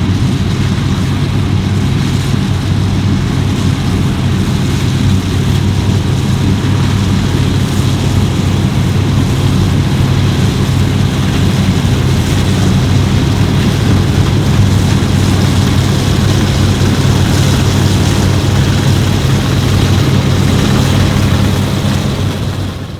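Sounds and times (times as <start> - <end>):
combine harvester engine drone: 0.0 - 22.9.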